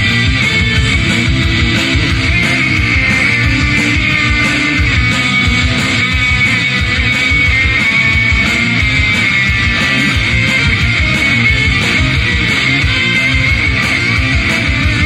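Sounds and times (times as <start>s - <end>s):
loud rock music with electric guitar: 0.0s - 15.0s.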